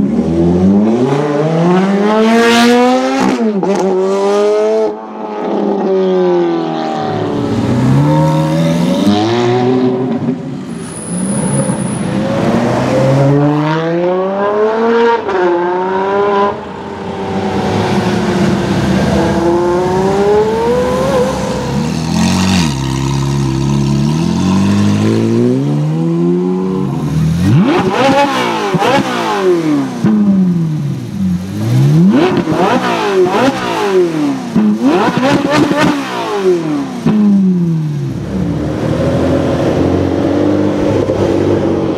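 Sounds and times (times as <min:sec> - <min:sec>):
sports car engine revving: 0:00.0 - 0:11.2, 0:12.1 - 0:41.9
car engine accelerating with upshifts: 0:00.0 - 0:41.9
car engine blipped: 0:06.2 - 0:41.9.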